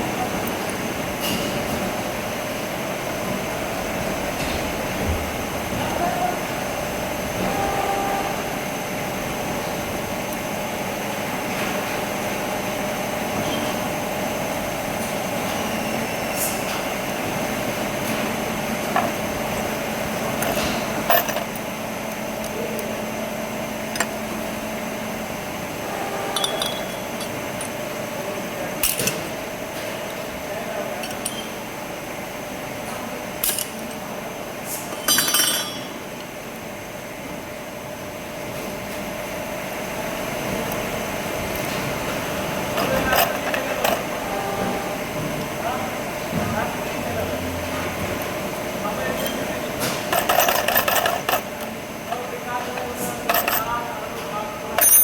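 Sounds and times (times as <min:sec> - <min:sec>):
steady hum: 0:00.0 - 0:34.6, 0:35.2 - 0:55.0.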